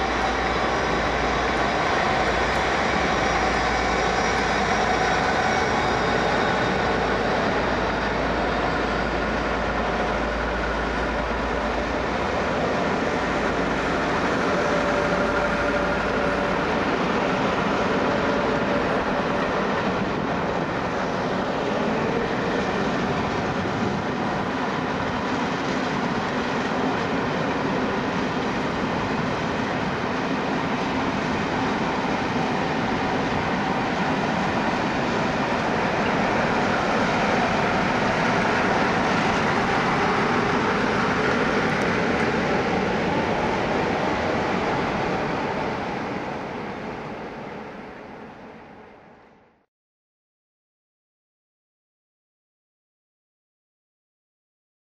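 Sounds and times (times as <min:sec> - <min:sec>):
train wheels rumbling on rails: 0:00.0 - 0:49.4
diesel locomotive: 0:00.0 - 0:49.6.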